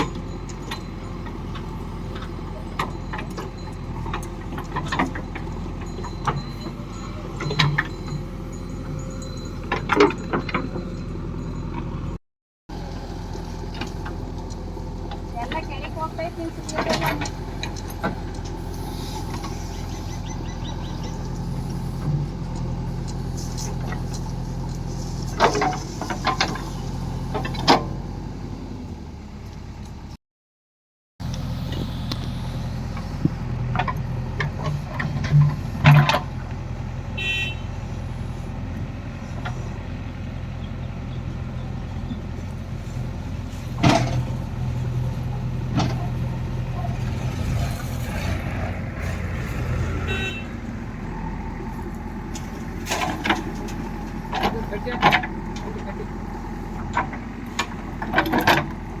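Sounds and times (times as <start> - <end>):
farm machine engine running: 0.0 - 30.1, 31.2 - 59.0.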